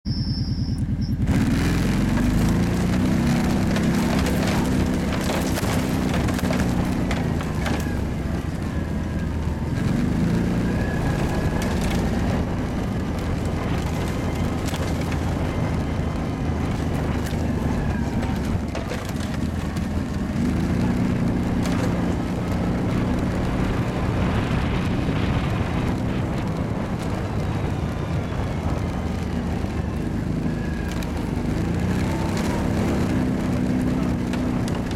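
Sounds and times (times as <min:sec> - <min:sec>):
quad engine revving: 0:00.2 - 0:34.9
knocks and rattles: 0:01.2 - 0:34.9.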